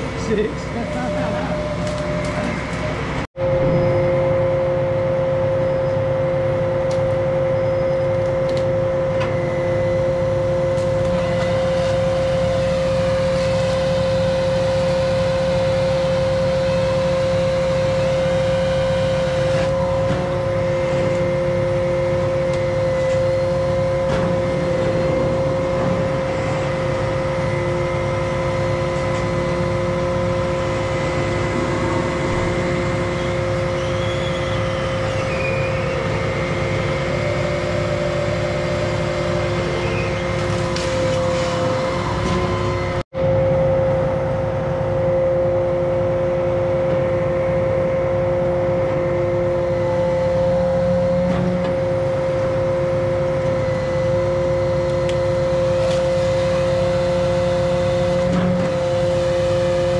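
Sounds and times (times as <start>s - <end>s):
high whine: 0.0s - 59.9s
truck engine running: 0.0s - 59.9s.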